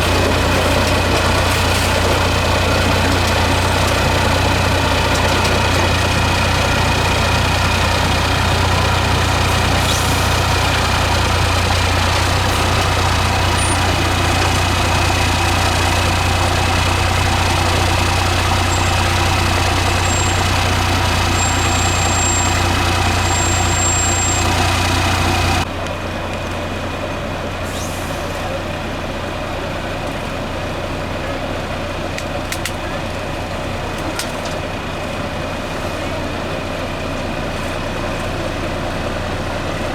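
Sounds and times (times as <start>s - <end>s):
diesel engine running at low revs: 0.0s - 39.9s.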